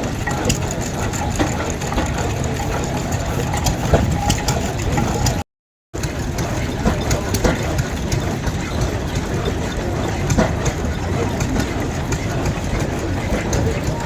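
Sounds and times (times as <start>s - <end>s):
engine idling: 0.0s - 5.4s, 6.0s - 14.0s
engine knocks: 0.0s - 5.4s, 6.0s - 14.0s.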